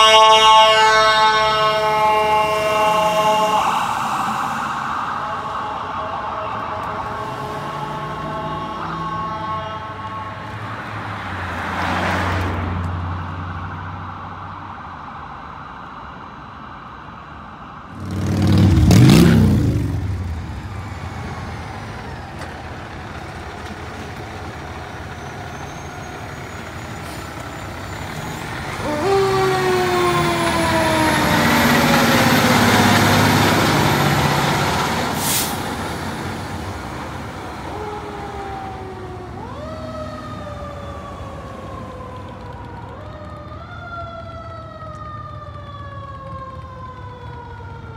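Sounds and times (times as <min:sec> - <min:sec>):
diesel engines rumbling: 0:00.0 - 0:47.9
fire truck sirens: 0:00.0 - 0:47.9.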